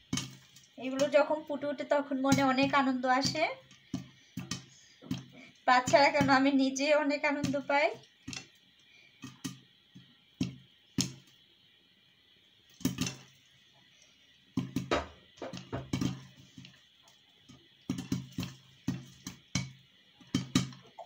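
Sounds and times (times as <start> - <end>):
popcorn popping in covered pan: 0.0 - 21.0.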